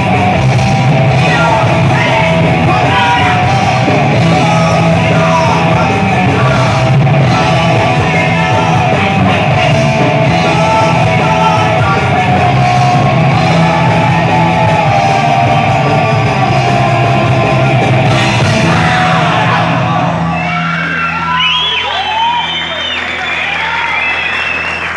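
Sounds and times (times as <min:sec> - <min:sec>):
thrash metal band playing live: 0:00.0 - 0:23.0.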